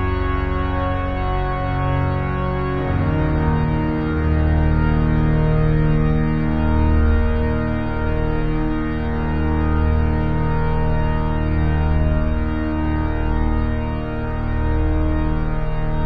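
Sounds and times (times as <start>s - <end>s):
pipe organ chords: 0.0s - 16.0s.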